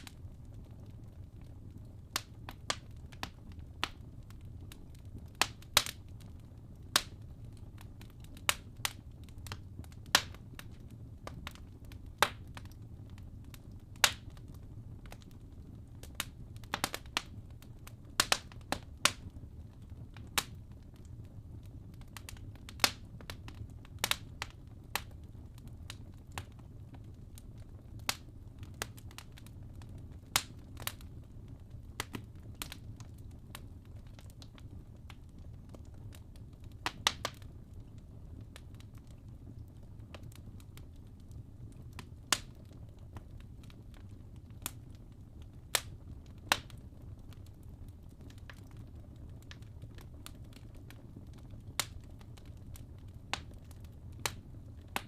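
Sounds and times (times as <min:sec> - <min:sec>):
low rumble of flames: 0:00.0 - 0:55.0.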